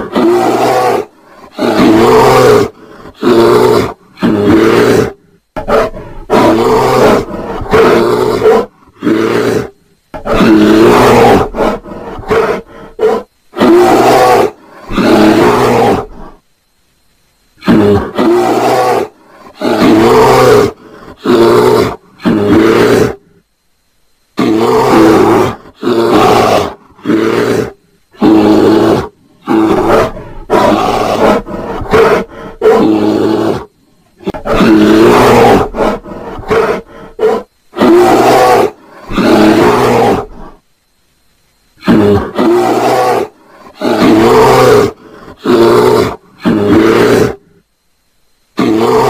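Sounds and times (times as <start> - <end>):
bear roaring: 0.0 - 16.4, 17.6 - 23.4, 24.4 - 40.6, 41.8 - 47.6, 48.6 - 49.0.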